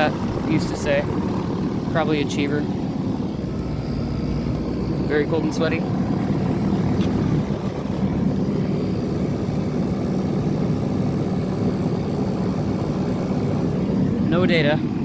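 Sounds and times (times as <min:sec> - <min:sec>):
air conditioner units humming: 0:00.0 - 0:15.0.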